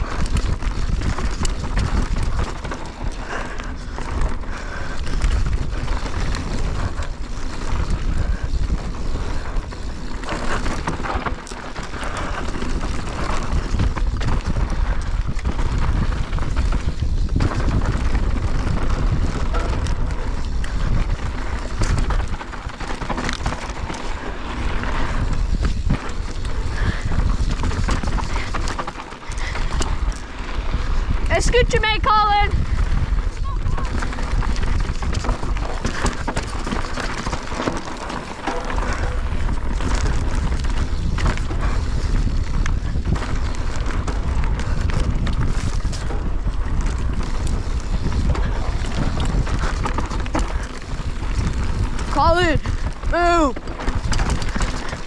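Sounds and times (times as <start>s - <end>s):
bike rattling over bumps: 0.0s - 55.0s
tyres on dirt: 0.0s - 55.0s
wind on microphone: 0.0s - 55.0s.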